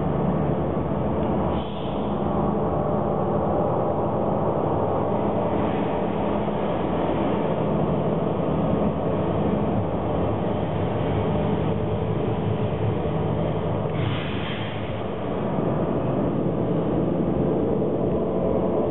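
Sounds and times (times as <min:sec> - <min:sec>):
dense drone of held tones: 0:00.0 - 0:18.9
noisy hum: 0:00.0 - 0:18.9.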